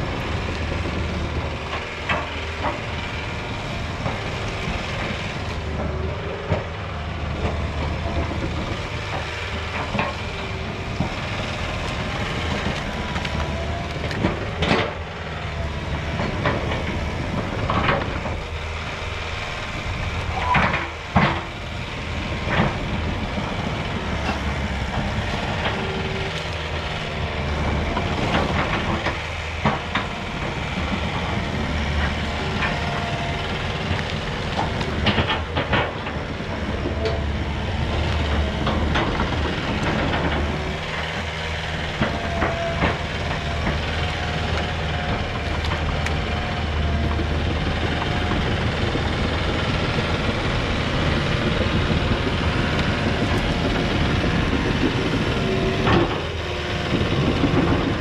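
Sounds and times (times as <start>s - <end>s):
diesel engine running: 0.0s - 58.0s
tracks clanking: 0.0s - 58.0s.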